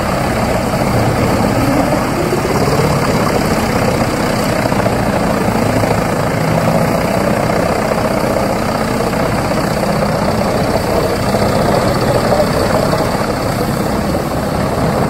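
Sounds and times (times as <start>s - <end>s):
wood chipper running: 0.0s - 15.0s.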